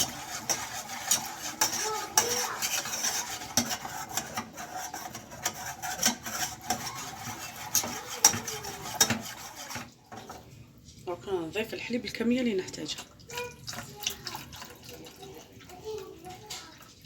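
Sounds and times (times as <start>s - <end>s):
spoon stirring sauce in a pan: 0.0s - 11.0s, 12.2s - 17.0s.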